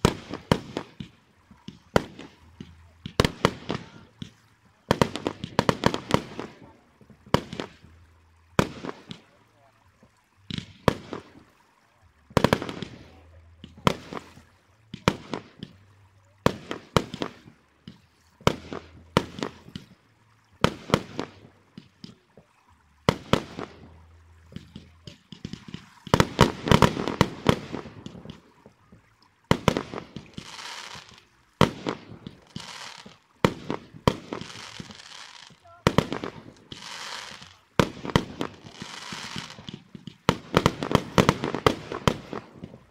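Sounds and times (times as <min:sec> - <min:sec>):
fireworks bursting: 0:00.0 - 0:09.4, 0:10.4 - 0:11.6, 0:12.3 - 0:42.9
fireworks crackling: 0:00.0 - 0:42.9.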